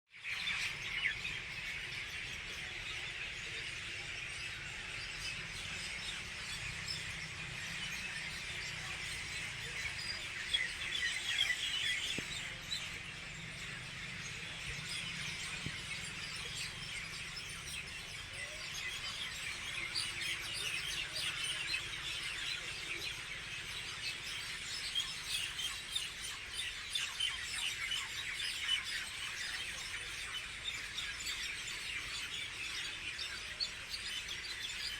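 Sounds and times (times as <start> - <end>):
flock of birds chirping: 0.1 - 34.9.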